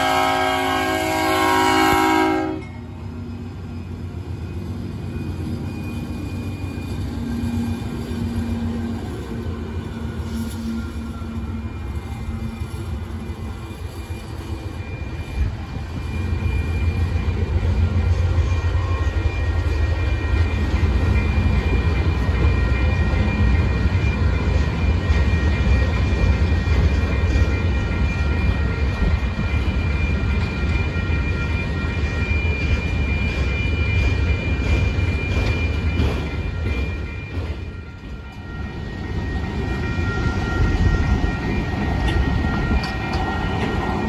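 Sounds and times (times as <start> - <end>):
train wheels rumbling on rails: 0.0 - 44.0
thin high ringing tone: 2.6 - 44.0.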